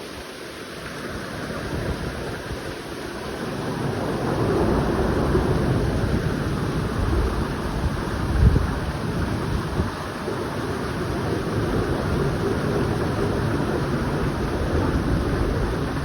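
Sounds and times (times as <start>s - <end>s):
heavy rain downpour: 0.0s - 16.0s
wind: 0.0s - 16.0s.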